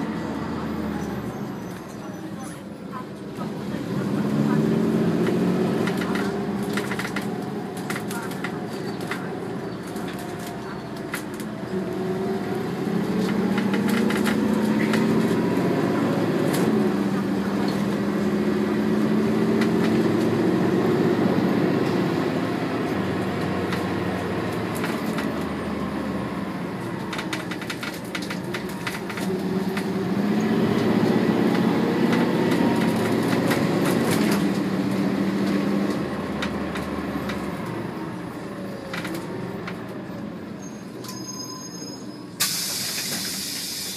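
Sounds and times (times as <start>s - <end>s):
bus body rattles and clicks: 0.0s - 43.9s
bus engine accelerating: 0.0s - 43.9s.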